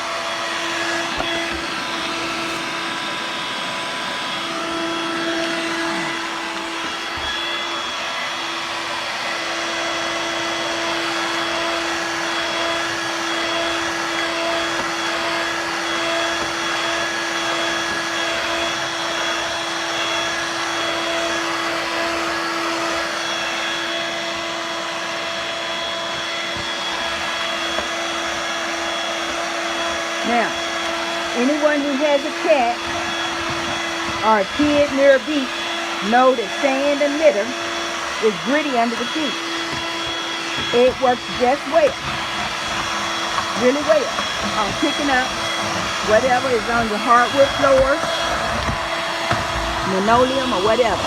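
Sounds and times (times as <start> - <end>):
stick vacuum running: 0.0 - 51.0.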